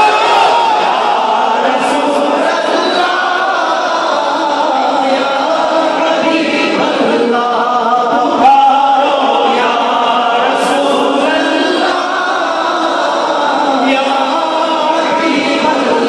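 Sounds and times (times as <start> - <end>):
crowd of men chanting: 0.0 - 16.0
loud nearby man's voice: 0.0 - 16.0.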